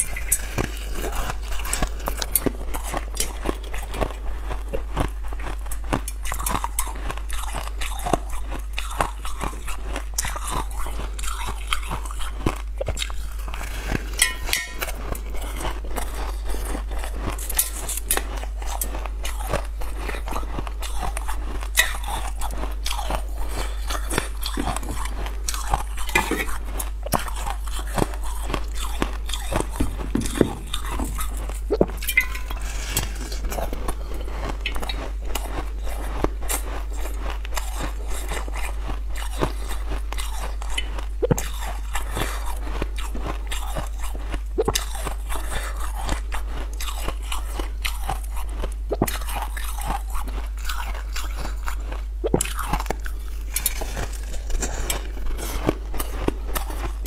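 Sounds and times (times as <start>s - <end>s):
person chewing crunchy food: 0.0s - 57.0s
steady low hum: 0.0s - 57.0s.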